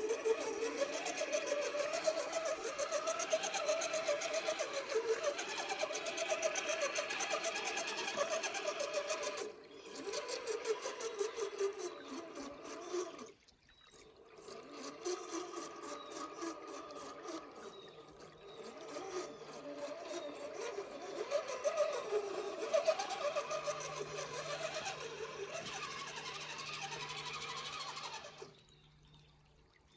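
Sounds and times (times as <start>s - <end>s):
small electric motor whining: 0.0s - 29.4s
water noise: 0.0s - 29.9s.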